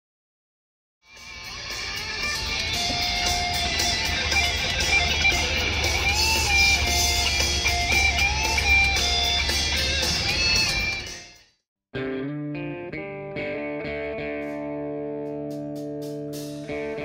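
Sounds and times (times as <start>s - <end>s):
lead guitar with bending notes: 1.1s - 11.4s, 12.0s - 17.0s
strummed guitar: 1.1s - 11.4s, 12.0s - 17.0s.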